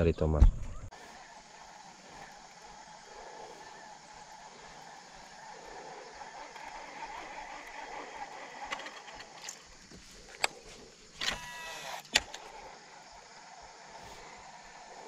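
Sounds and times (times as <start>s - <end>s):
reel spool spinning whine: 0.9s - 15.0s.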